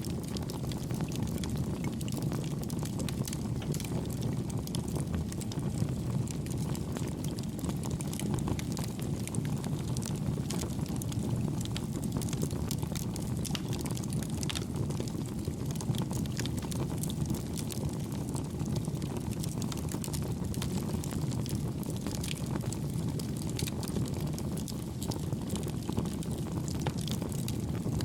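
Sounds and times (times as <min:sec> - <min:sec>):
campfire flame rushing: 0:00.0 - 0:28.0
wood crackling and popping: 0:00.0 - 0:28.0.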